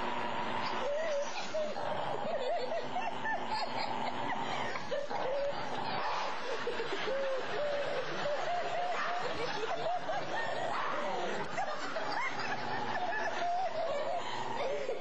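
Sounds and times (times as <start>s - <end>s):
stifled snickering and giggling: 0.0s - 15.0s.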